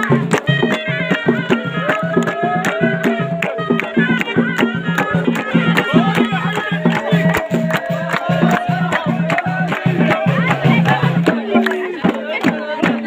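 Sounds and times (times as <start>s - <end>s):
reed shawm folk melody: 0.0s - 12.8s
steady drumbeat: 0.0s - 13.0s.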